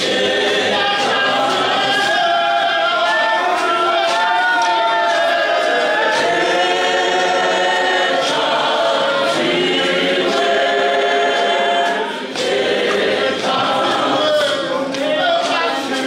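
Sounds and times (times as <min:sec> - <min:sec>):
women's choir singing a hymn: 0:00.0 - 0:16.0.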